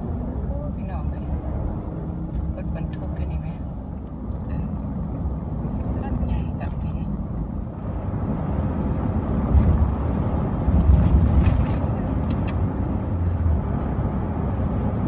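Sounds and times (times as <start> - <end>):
passing traffic: 0.0 - 15.0
road and engine rumble: 0.0 - 15.0.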